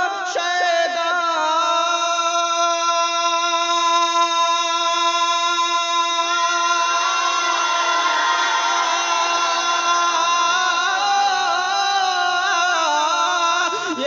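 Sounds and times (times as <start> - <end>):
man singing unaccompanied: 0.0 - 8.0, 8.8 - 14.0.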